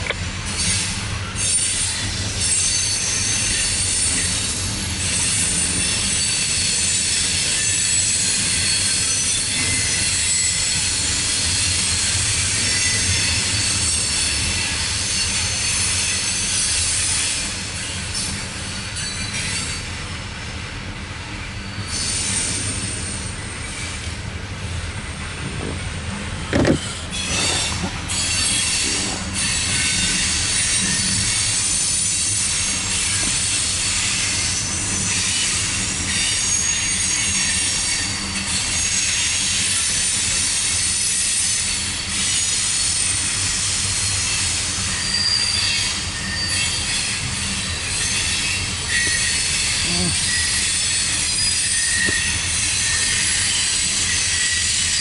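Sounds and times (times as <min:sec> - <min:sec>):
train wheels rumbling on rail: 0:00.0 - 0:55.0
high-pitched wheel squeal: 0:00.5 - 0:19.9, 0:26.6 - 0:55.0.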